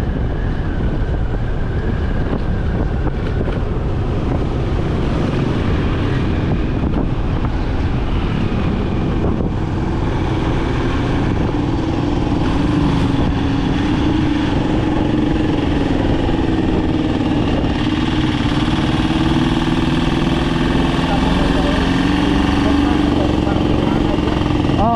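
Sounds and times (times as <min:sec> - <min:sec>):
motorcycle engine running: 0:00.0 - 0:24.9
wind rushing over microphone: 0:00.0 - 0:24.9.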